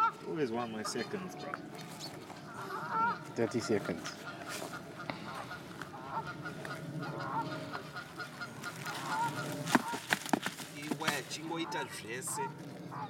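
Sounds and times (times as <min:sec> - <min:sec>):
waterfowl honking: 0:00.0 - 0:13.0.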